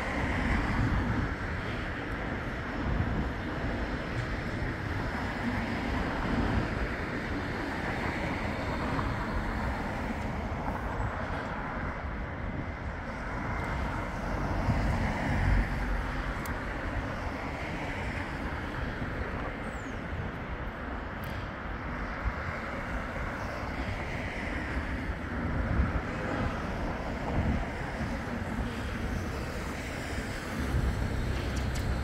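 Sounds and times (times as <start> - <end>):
tram slowing to a stop: 0.0 - 32.0.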